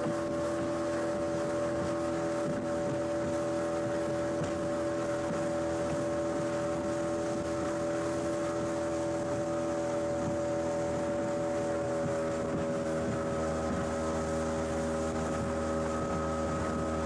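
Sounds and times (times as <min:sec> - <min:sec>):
motorboat engine droning: 0:00.0 - 0:17.0
wind and water rushing: 0:00.0 - 0:17.0.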